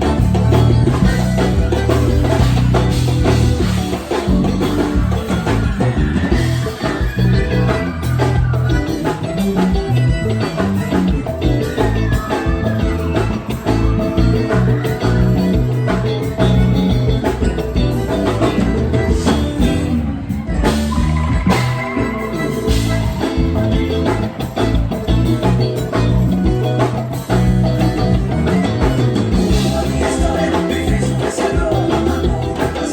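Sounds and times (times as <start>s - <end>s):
bass: 0.0s - 32.9s
drum kit: 0.0s - 32.9s
electric guitar: 0.0s - 32.9s
melody line: 0.0s - 32.9s.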